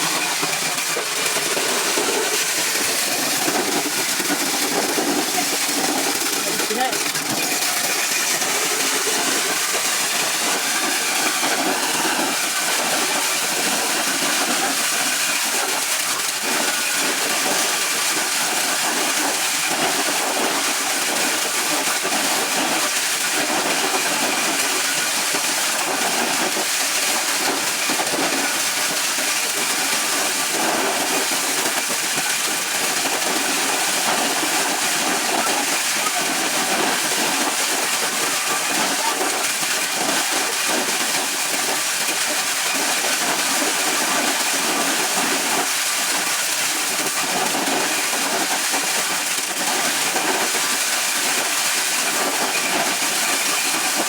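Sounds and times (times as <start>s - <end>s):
corn shelling machine running: 0.0s - 54.0s.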